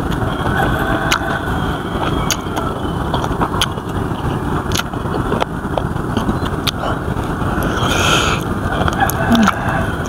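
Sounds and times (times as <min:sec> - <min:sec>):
close-up chewing: 0:00.0 - 0:09.9
steady low rumble: 0:00.0 - 0:10.0
sharp crunching clicks: 0:00.9 - 0:01.4, 0:02.0 - 0:09.6.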